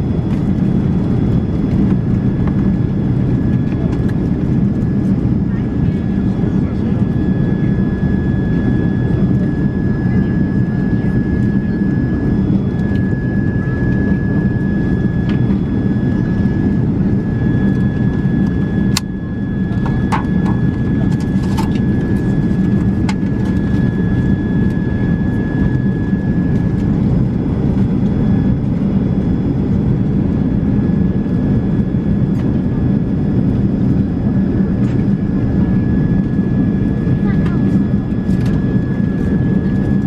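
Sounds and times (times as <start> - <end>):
aircraft cabin rumble: 0.0 - 40.0
thin steady whine: 0.0 - 40.0.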